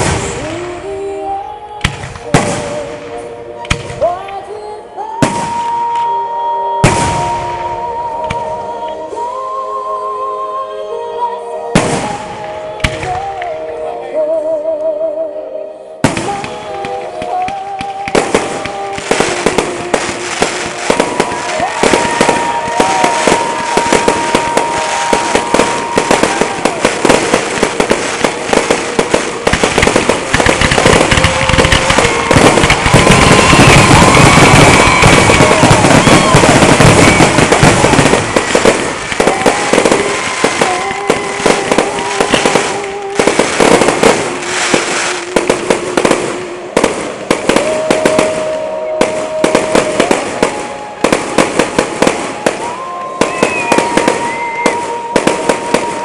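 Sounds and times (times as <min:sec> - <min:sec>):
fireworks bangs and crackling: 0:00.0 - 0:04.4, 0:05.0 - 0:09.2, 0:11.7 - 0:13.5, 0:16.0 - 0:56.0
music: 0:00.0 - 0:56.0.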